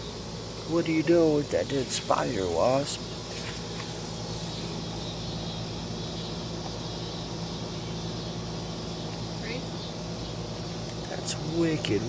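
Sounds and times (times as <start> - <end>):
background hiss: 0.0 - 12.0
low mechanical hum: 0.0 - 12.0.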